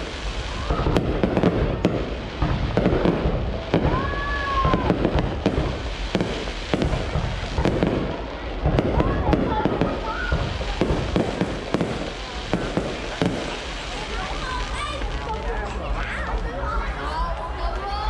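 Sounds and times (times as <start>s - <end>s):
fireworks bangs and crackling: 0.0s - 17.6s.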